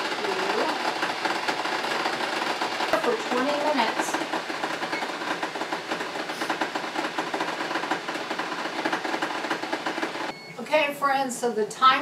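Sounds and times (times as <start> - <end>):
water boiling with steam hiss: 0.0 - 10.3.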